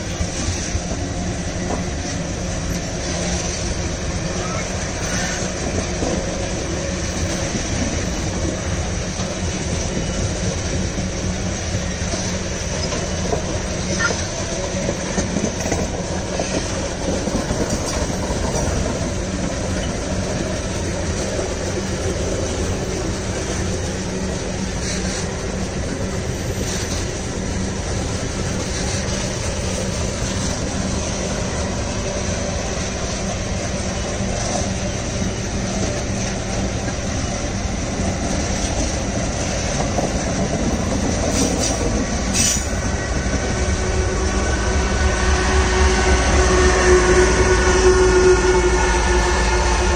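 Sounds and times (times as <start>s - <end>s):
freight train wheels on rails: 0.0s - 49.9s.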